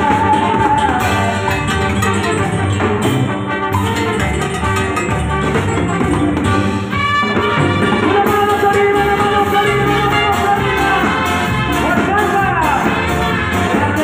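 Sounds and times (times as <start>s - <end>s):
brass section: 0.0s - 14.0s
latin dance band playing: 0.0s - 14.0s.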